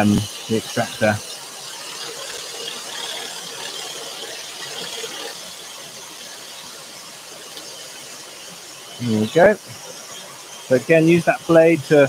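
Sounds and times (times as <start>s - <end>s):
dust extractor hiss and whine: 0.0s - 12.0s.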